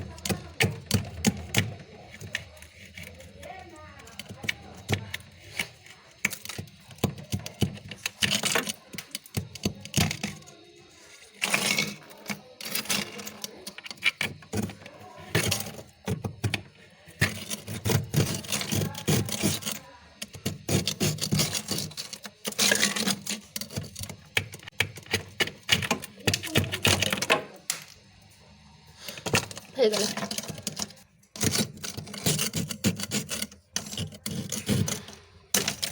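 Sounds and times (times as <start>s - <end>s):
freezer frost crunching: 0.0s - 28.0s, 28.9s - 35.9s.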